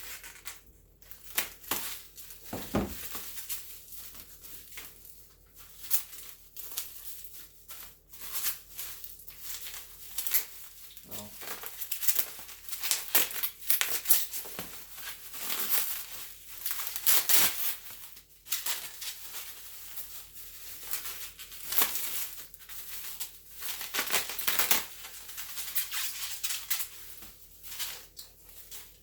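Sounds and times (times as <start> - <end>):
packaging crinkling and rustling: 0.0 - 29.0
wrapping tearing: 0.0 - 29.0.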